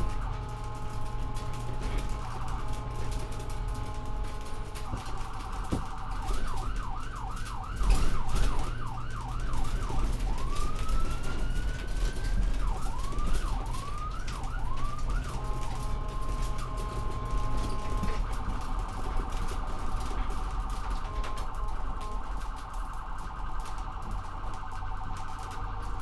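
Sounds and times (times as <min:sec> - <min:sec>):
ambulance siren: 0:00.0 - 0:26.0
engine and road rumble: 0:00.0 - 0:26.0.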